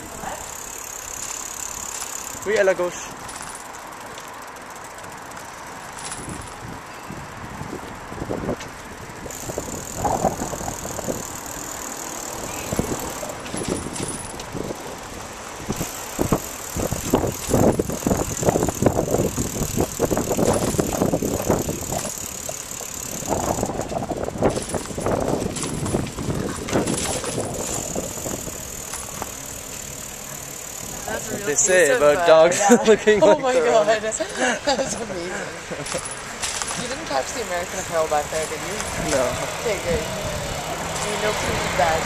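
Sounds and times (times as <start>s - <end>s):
bicycle rattling: 0.0s - 42.0s
road noise rushing: 0.0s - 42.0s.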